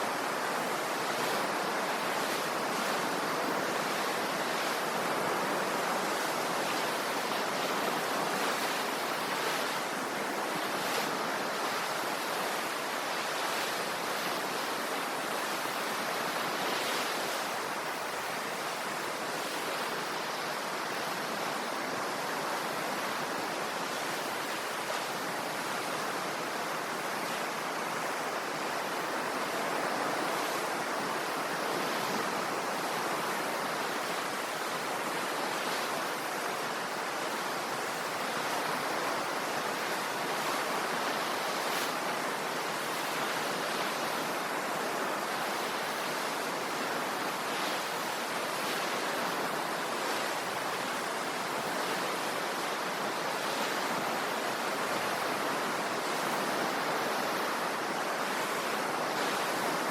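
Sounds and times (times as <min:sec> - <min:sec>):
sea waves on shore: 0:00.0 - 0:59.9.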